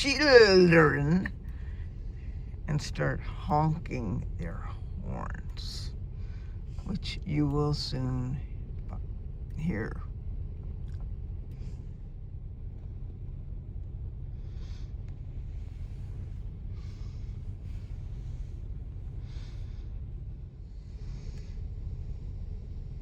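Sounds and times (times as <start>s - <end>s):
low garage rumble: 0.0s - 23.0s.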